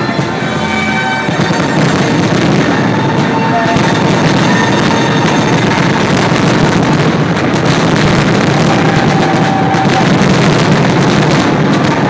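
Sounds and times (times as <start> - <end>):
fireworks barrage of bangs: 0.0 - 12.0.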